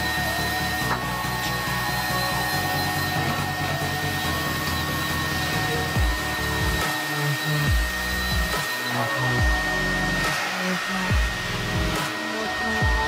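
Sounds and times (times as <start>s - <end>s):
background music with bass line: 0.0s - 13.0s
vacuum motor whining: 0.0s - 13.0s.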